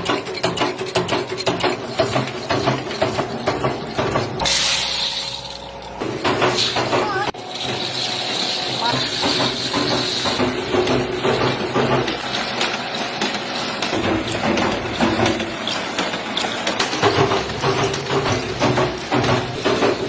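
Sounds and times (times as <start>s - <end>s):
machinery clattering rapid clicks: 0.0s - 4.5s, 6.3s - 20.0s.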